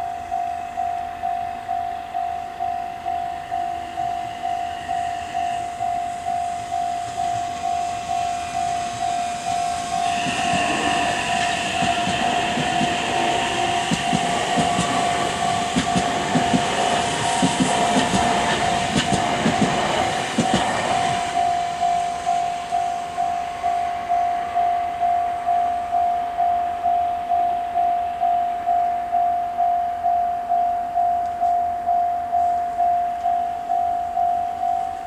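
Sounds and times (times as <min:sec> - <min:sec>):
level crossing warning bell: 0:00.0 - 0:35.0
train passing with clacking wheels: 0:00.0 - 0:35.0.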